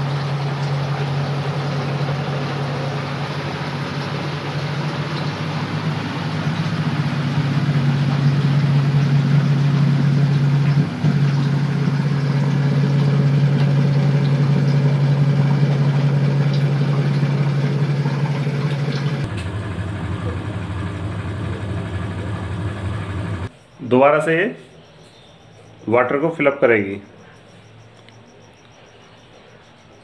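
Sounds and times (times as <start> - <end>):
washing machine motor hum: 0.0 - 24.6
washing machine drum whirring: 0.0 - 30.0.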